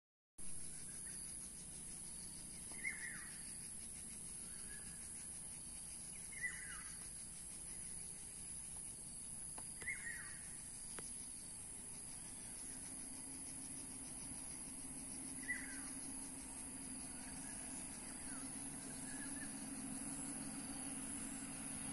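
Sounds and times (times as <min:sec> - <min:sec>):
high-pitched outdoor hiss: 0:00.4 - 0:21.9.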